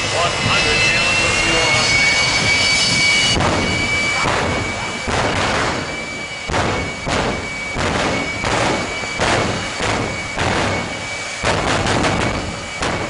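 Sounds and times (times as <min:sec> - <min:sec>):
jet engine pulsing whine: 0:00.0 - 0:13.0.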